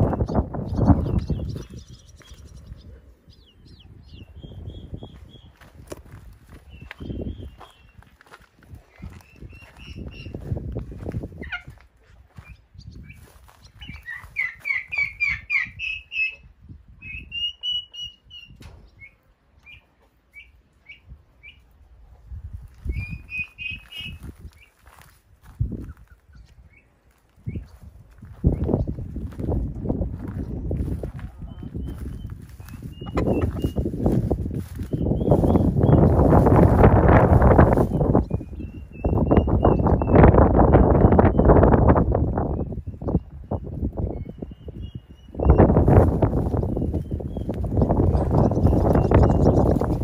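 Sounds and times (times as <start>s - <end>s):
wind rumble on microphone: 0.0s - 19.7s, 20.9s - 50.0s
young birds peeping: 0.0s - 50.0s.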